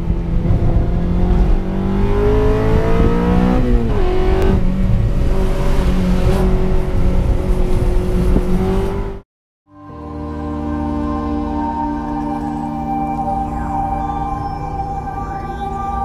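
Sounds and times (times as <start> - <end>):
car engine revving: 0.0 - 9.2, 9.8 - 16.0.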